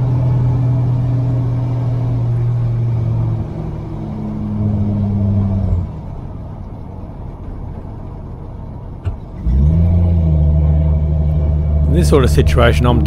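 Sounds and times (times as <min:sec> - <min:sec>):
car engine downshifting: 0:00.0 - 0:13.0.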